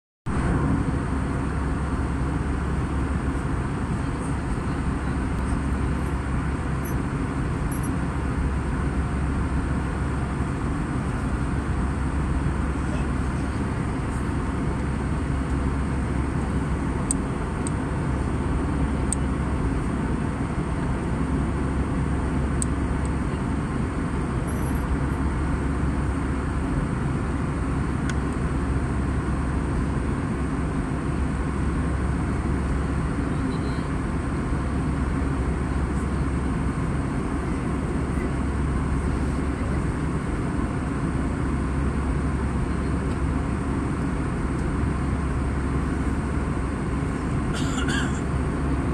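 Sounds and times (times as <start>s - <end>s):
airliner cabin drone: 0.3s - 48.9s.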